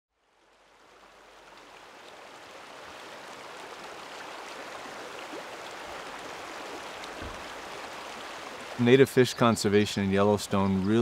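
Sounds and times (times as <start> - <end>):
creek splashing over rocks: 0.1 - 11.0.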